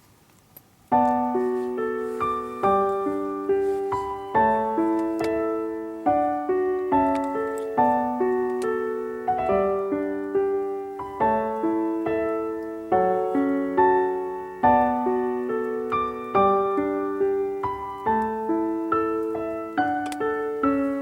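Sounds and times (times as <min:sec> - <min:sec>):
slow gentle piano piece: 0:00.0 - 0:21.0.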